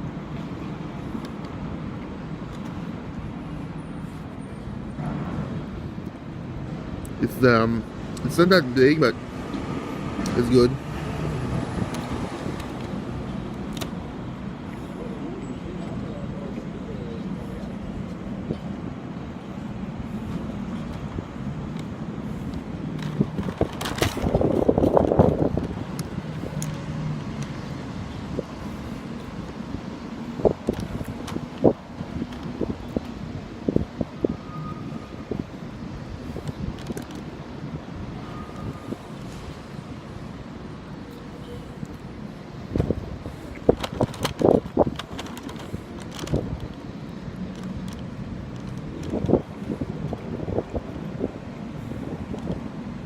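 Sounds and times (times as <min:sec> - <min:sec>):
traffic rumble: 0:00.0 - 0:53.0.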